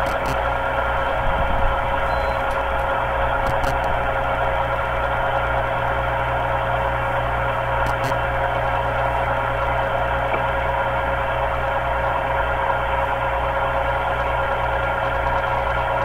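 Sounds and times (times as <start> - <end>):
metal lathe whining drone: 0.0 - 16.0.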